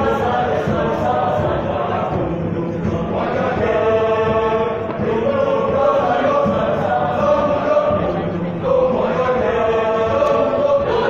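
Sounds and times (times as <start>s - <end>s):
male choir singing: 0.0s - 11.0s.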